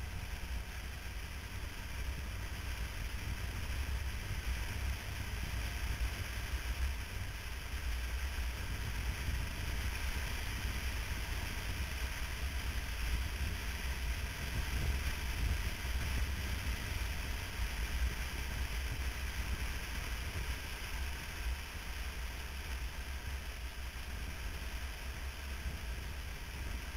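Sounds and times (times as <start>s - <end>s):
motorcycle low rumble: 0.0s - 26.9s
wind rush on microphone: 0.0s - 26.9s.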